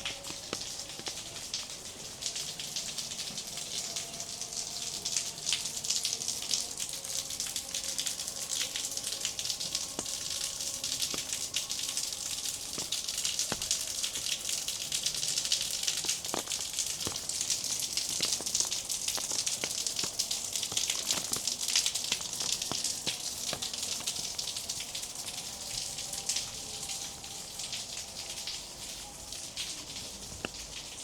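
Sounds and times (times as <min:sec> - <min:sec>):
rain hissing: 0:00.0 - 0:31.0
raindrops ticking on surfaces: 0:00.0 - 0:31.0.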